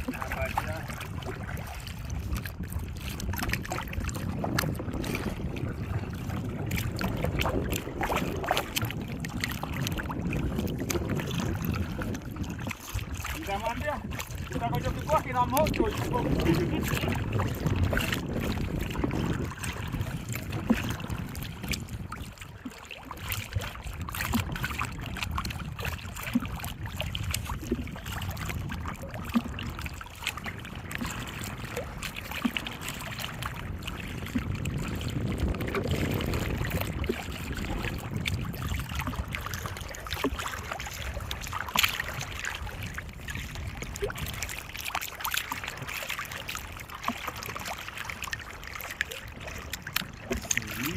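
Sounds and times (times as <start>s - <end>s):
water splashing around a boat: 0.0s - 50.9s.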